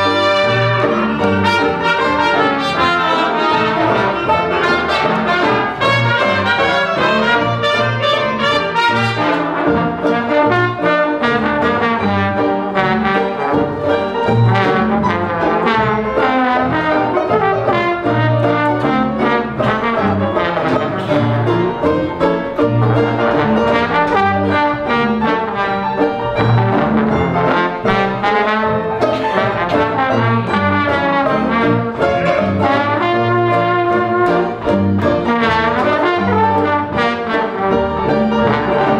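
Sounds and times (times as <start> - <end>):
jazz band playing: 0.0 - 38.9
trombone: 0.0 - 38.9.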